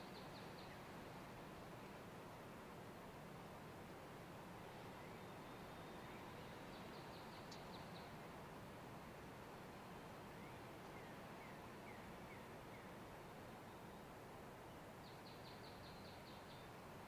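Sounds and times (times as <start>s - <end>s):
faint wind: 0.0s - 17.0s.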